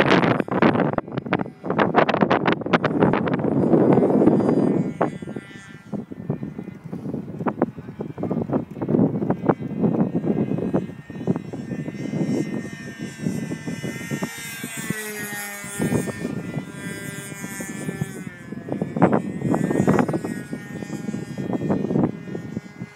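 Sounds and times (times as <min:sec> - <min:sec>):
propeller plane engine drone: 0:00.0 - 0:22.9
wind buffeting microphone: 0:00.0 - 0:22.9.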